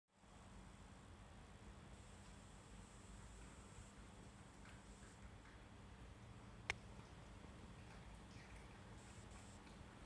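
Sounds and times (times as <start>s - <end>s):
faint background hiss: 0.1s - 10.0s.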